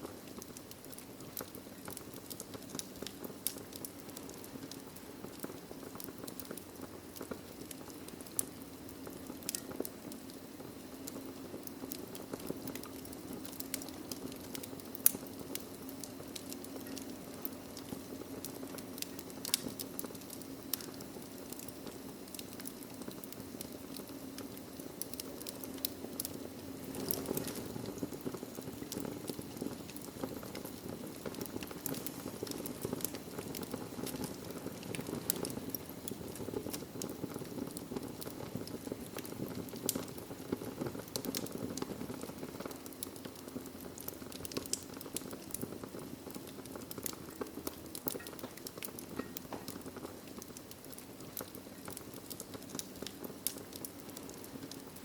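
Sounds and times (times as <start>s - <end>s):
fire pops: 0.0s - 55.0s
wood fire crackling: 0.0s - 55.0s
rush of flame: 2.7s - 55.0s.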